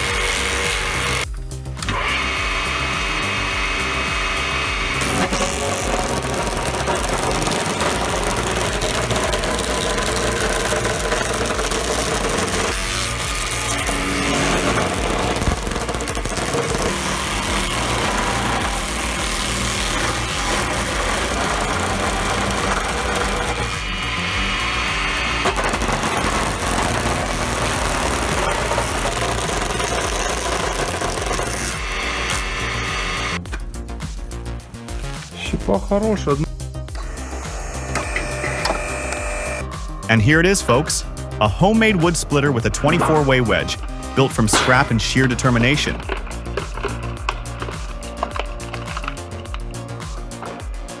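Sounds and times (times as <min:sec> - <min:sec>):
chainsaw engine running chipper: 0:00.0 - 0:33.4, 0:37.0 - 0:49.6
music with steady beat: 0:00.0 - 0:51.0.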